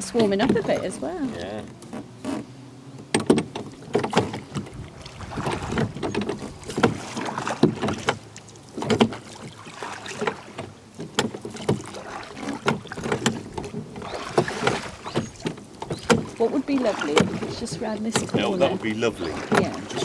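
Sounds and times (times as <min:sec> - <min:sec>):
oar blades washing in water: 0:00.0 - 0:20.0
oars knocking in rowlocks: 0:00.0 - 0:20.0.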